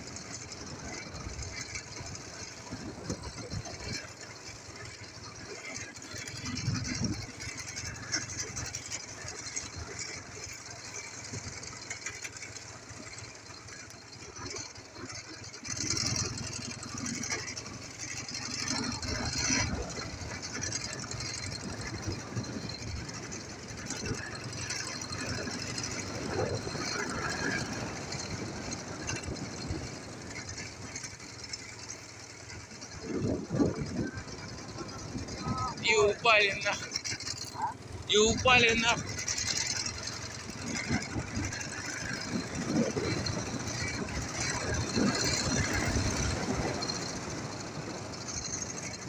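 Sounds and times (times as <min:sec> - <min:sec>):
motorcycle engine running rough: 0:00.0 - 0:49.0.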